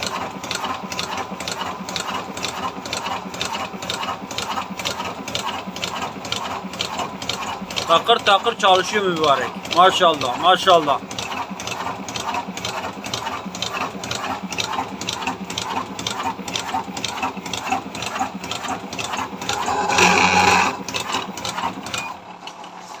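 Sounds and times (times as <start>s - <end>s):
cigarette rolling machine clattering: 0.0s - 23.0s.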